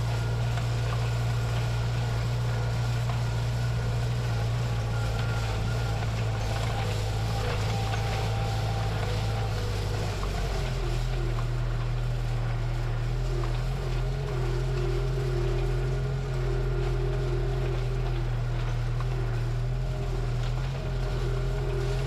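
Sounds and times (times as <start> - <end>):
faint wavering whine: 0.0 - 22.0
tractor engine drone: 0.0 - 22.0.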